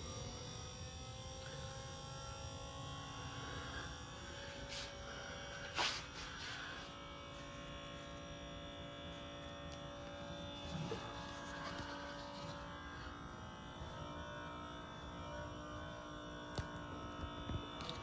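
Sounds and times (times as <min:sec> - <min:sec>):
vacuum cleaner motor buzzing: 0:00.0 - 0:18.0.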